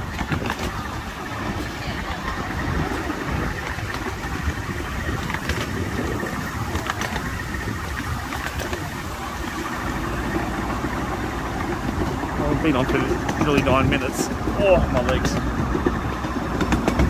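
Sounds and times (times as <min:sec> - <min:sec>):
miniature train rumbling on track: 0:00.0 - 0:17.0.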